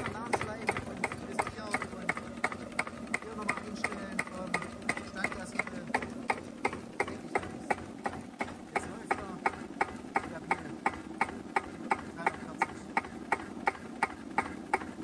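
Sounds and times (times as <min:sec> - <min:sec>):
diesel engine idling with knocks: 0:00.0 - 0:15.0.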